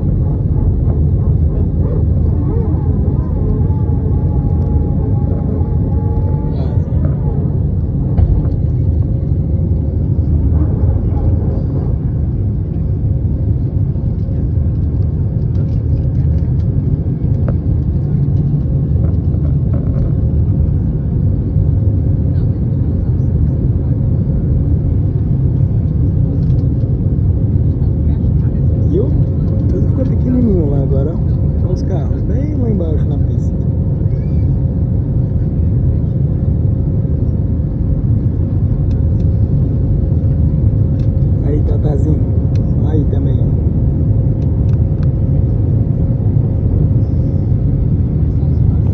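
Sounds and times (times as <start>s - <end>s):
airliner engine rumble in cabin: 0.0s - 48.9s.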